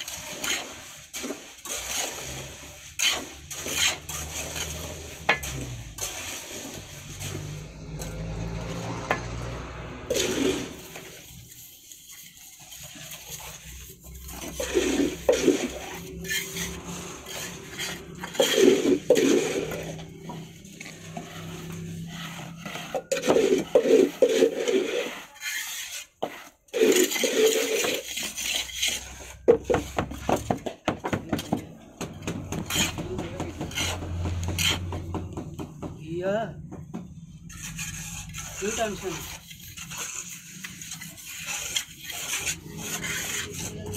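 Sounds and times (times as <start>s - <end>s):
trowel scraping cement: 0.0s - 35.8s, 37.1s - 43.9s.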